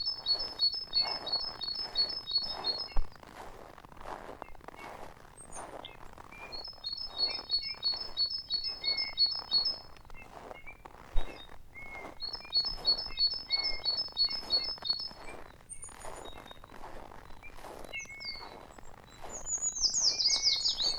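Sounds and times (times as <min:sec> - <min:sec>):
songbird singing: 0:00.0 - 0:03.2, 0:05.4 - 0:20.9
footsteps in snow: 0:00.0 - 0:20.9.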